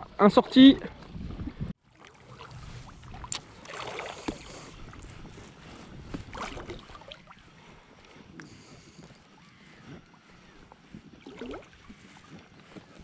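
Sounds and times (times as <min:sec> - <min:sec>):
water lapping against float tube: 0:00.0 - 0:13.0
soft splashing: 0:00.5 - 0:13.0.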